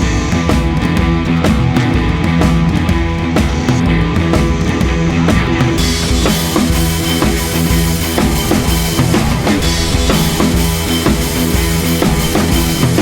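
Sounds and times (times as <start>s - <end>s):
rock music with drum kit: 0.0s - 13.0s.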